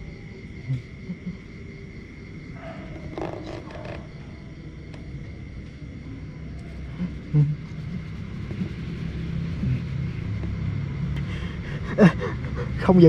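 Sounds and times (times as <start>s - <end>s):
low steady rumble: 2.1s - 12.8s.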